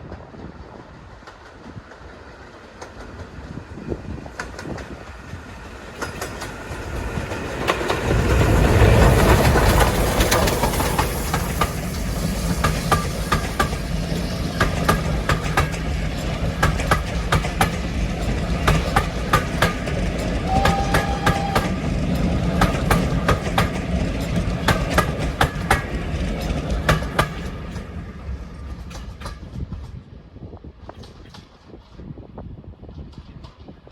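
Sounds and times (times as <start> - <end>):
train low rumble: 0.0 - 33.9
wheels clicking over rail joints: 1.2 - 30.1.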